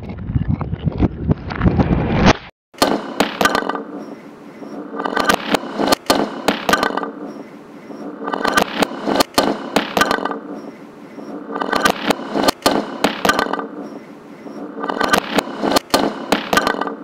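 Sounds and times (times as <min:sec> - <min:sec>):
dense noisy layer: 0:02.8 - 0:17.0
sharp clicks and crackles: 0:02.8 - 0:17.0.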